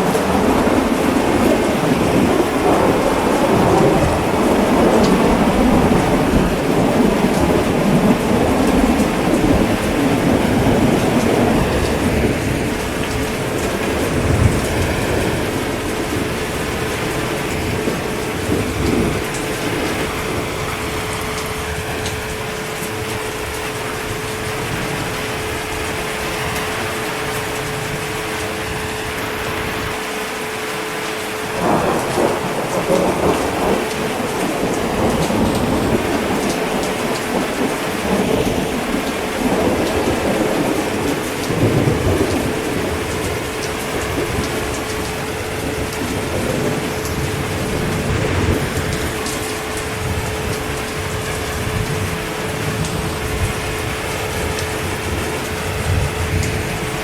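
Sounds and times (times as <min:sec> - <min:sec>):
rolling thunder: 0:00.0 - 0:30.0, 0:31.1 - 0:57.0
heavy rain: 0:00.0 - 0:57.0.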